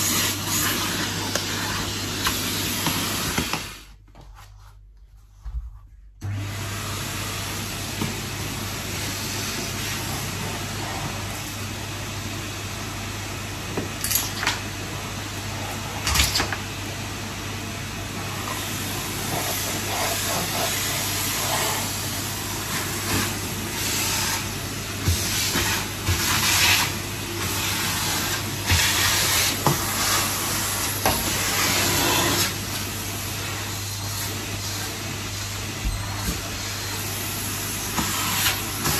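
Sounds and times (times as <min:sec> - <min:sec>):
vacuum cleaner running: 0:00.0 - 0:04.0, 0:06.2 - 0:38.9.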